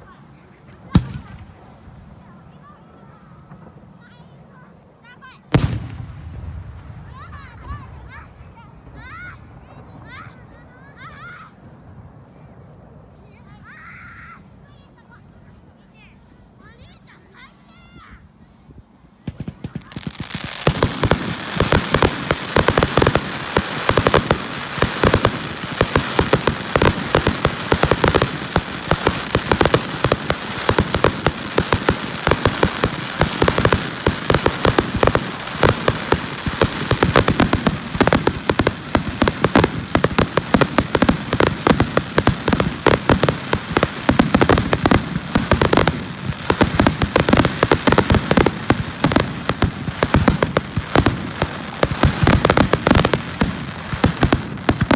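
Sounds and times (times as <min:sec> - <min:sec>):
fireworks bangs and crackles: 0:00.0 - 0:12.5, 0:19.1 - 0:54.9.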